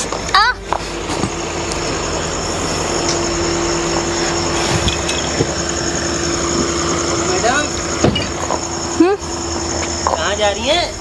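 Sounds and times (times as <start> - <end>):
car engine idling: 0.0 - 11.0
high whine: 0.0 - 11.0
steady hum: 0.0 - 11.0.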